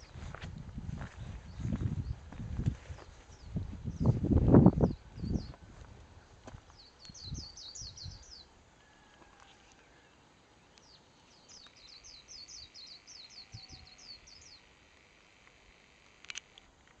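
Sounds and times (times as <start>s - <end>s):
songbird singing: 0.0s - 16.7s.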